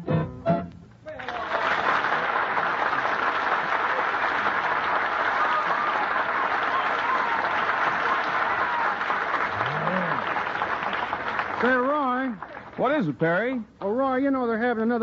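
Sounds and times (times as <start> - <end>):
audience applauding: 1.1 - 13.1.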